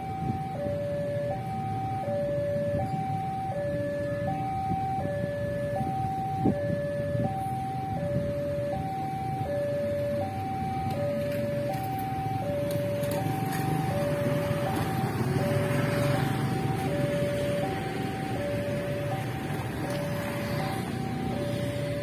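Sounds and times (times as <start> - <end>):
level crossing two-tone alarm: 0.0 - 22.0
road traffic rumble: 0.0 - 22.0.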